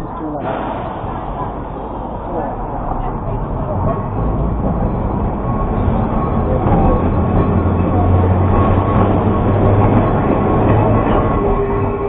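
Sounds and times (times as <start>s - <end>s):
tram rumbling on rails: 0.0s - 12.0s.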